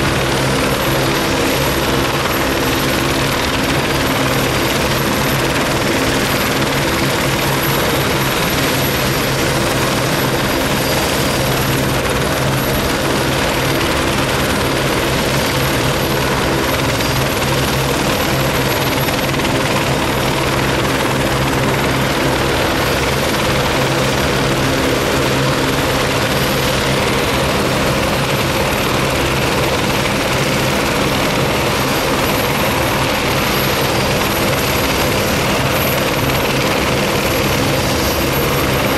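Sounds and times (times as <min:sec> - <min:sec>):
helicopter engines and rotors: 0:00.0 - 0:38.9.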